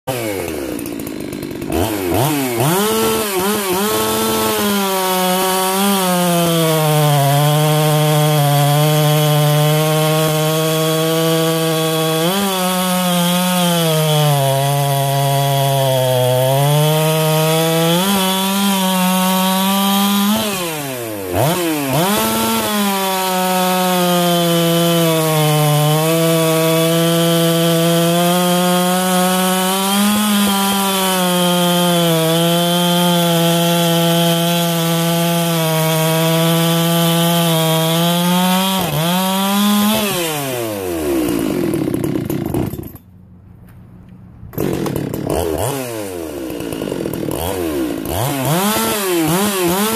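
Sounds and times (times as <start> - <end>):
chainsaw cutting log: 0.0 - 43.2, 44.2 - 49.9.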